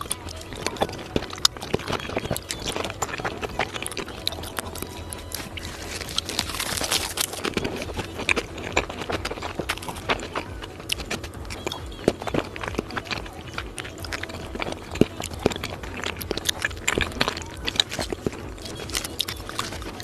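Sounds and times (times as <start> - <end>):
wet mouth chewing clicks: 0.0 - 20.0.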